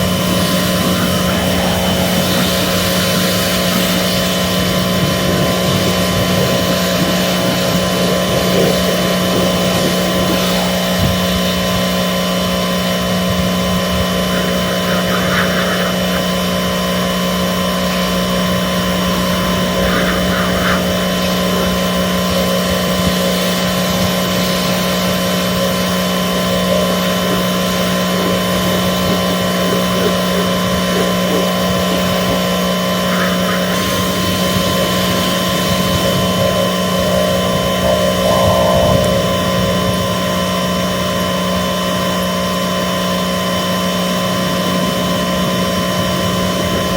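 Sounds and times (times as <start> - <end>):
motor-driven machine whining: 0.0 - 46.9.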